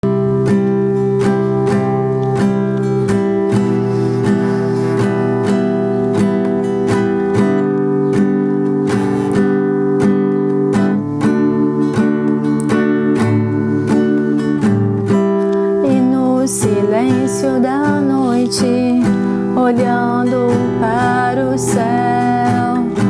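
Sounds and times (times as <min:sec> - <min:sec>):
acoustic guitar strummed chords: 0:00.0 - 0:23.0.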